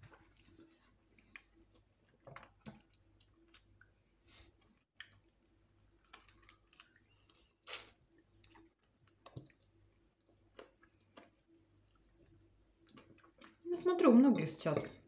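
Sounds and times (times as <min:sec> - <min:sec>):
chewing food: 0:00.0 - 0:14.1.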